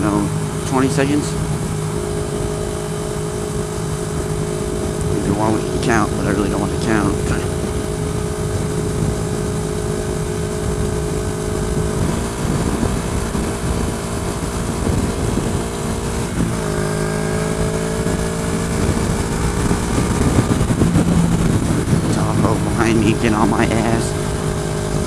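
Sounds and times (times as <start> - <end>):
motorcycle engine running: 0.0 - 25.0
wind noise on helmet: 1.4 - 25.0.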